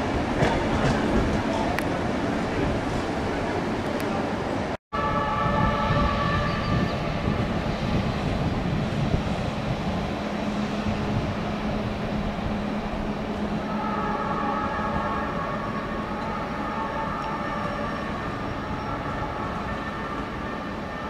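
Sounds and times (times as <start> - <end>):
train wheels rumbling on track: 0.0 - 4.7, 5.3 - 21.0.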